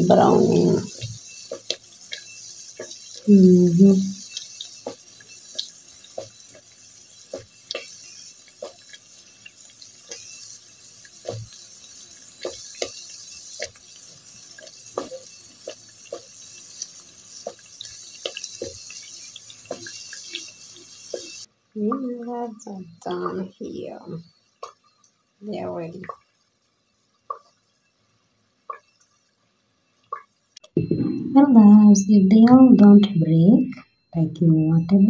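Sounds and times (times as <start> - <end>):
dough deep-frying in oil: 0.0 - 30.6.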